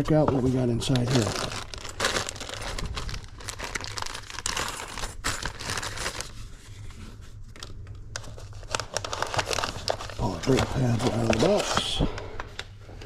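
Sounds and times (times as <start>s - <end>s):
packaging crinkling and ripping: 0.5s - 6.5s, 7.4s - 12.7s.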